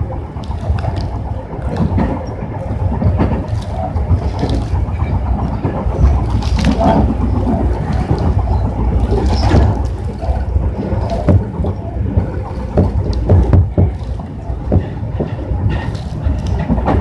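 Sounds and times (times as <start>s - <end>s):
train wheels rumbling on rail: 0.0s - 17.0s
wheels knocking over rail joints: 0.0s - 17.0s.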